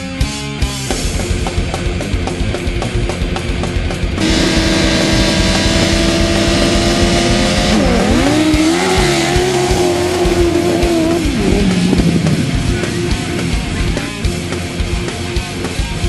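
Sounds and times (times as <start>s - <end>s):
motorcycle engine revving: 0.9s - 16.0s.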